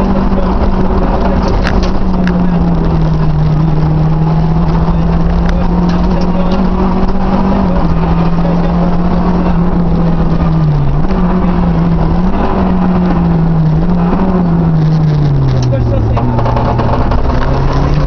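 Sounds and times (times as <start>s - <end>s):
car engine running hard: 0.0s - 18.0s
road and wind noise: 0.0s - 18.0s.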